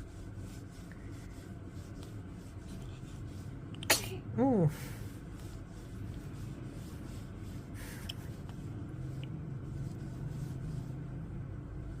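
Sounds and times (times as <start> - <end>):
soft rustling: 0.0 - 3.7, 5.0 - 12.0
steady low hum: 0.0 - 12.0.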